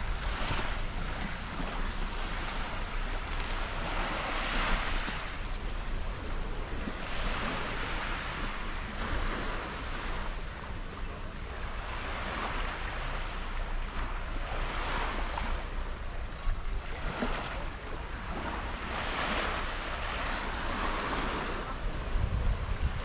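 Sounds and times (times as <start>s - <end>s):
sea waves washing on shore: 0.0s - 23.0s
wind buffeting microphone: 0.0s - 23.0s.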